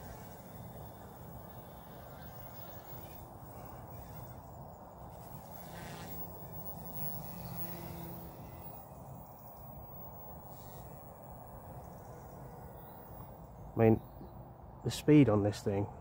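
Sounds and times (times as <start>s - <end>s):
model helicopter buzzing: 0.0s - 14.2s.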